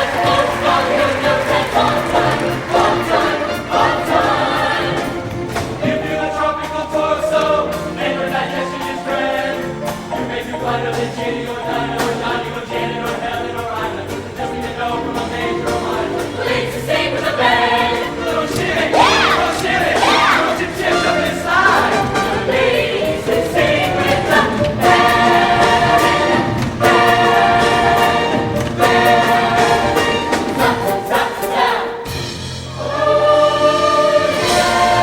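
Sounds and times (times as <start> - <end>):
choir singing in parts: 0.0 - 35.0.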